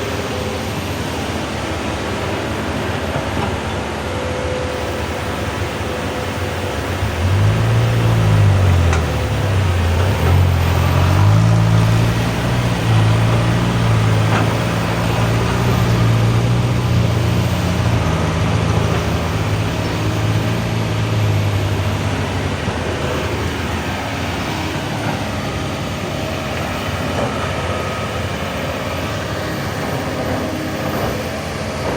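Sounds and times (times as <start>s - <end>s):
excavator diesel engine running: 0.0s - 31.9s
steady mechanical din: 0.2s - 31.9s.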